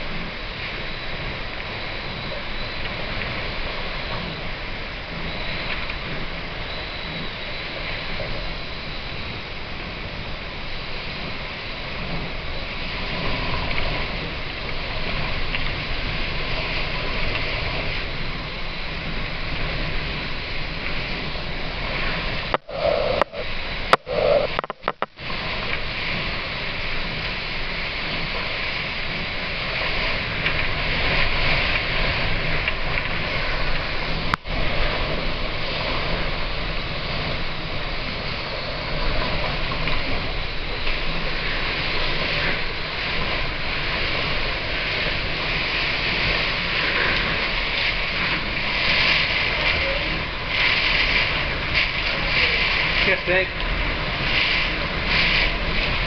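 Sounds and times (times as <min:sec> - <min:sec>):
strong wind blowing: 0:00.0 - 0:56.0
wind buffeting the microphone: 0:00.0 - 0:56.0.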